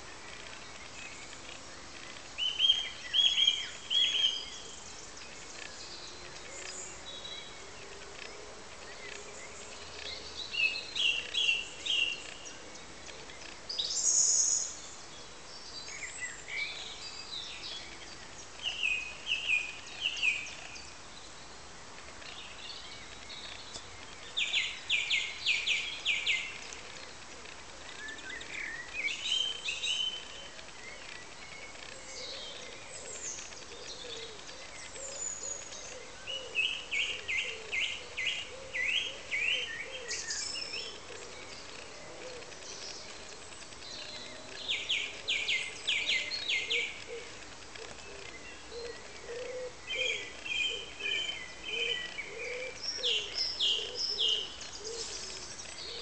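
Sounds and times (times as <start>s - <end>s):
low background noise: 0.0s - 56.0s.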